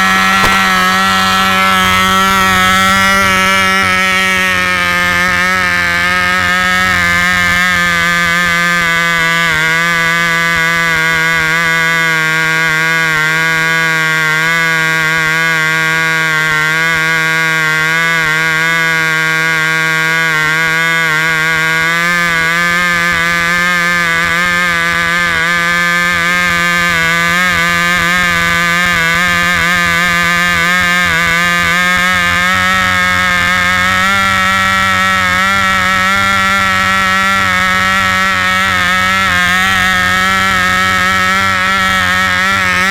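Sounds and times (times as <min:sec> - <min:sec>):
model engine buzzing whine: 0:00.0 - 0:42.9.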